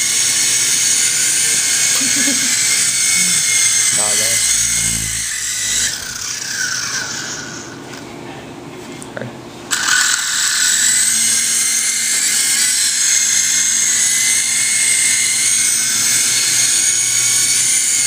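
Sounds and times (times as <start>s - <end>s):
small helicopter rotor whine: 0.0s - 8.1s, 9.7s - 18.0s.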